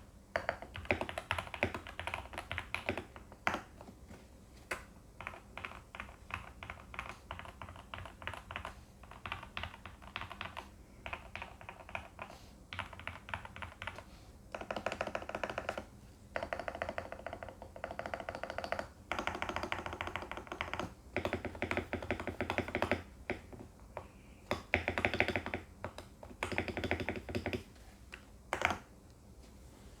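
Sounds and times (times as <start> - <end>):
mechanical keyboard typing: 0.4 - 3.9, 5.2 - 23.7, 24.5 - 27.7, 28.5 - 28.9.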